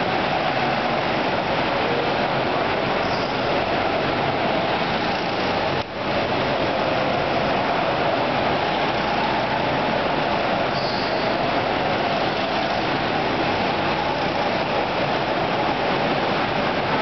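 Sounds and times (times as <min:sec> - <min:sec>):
go-karts engine and tyre drone: 0:00.0 - 0:17.0.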